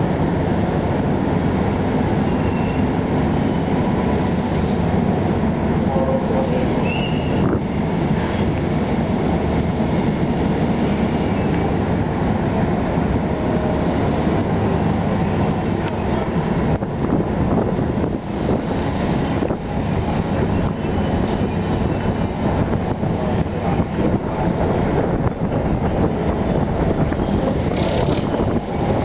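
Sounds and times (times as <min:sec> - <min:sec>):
low rumble of trains: 0:00.0 - 0:29.0.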